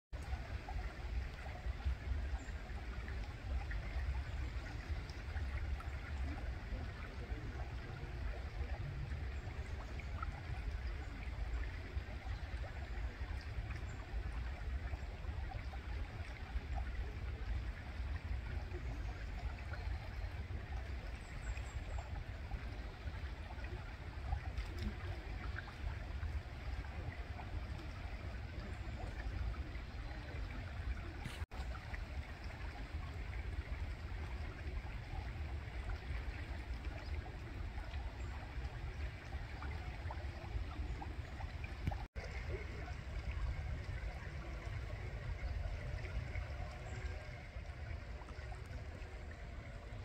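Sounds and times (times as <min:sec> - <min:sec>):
river water babbling over stones: 0:00.2 - 0:50.0.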